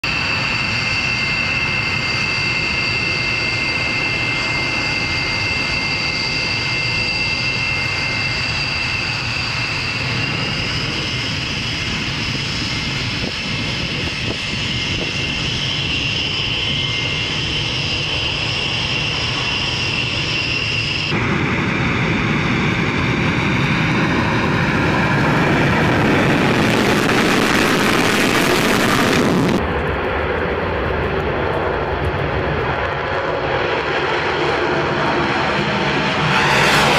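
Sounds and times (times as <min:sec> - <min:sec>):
jet engines high-pitched whine: 0:00.0 - 0:36.9
jet roar on take-off: 0:00.0 - 0:36.9.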